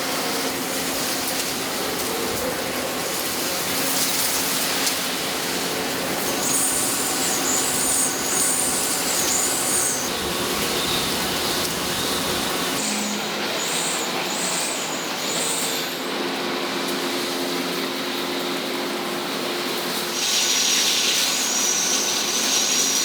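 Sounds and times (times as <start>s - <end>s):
machinery running: 0.0s - 19.0s.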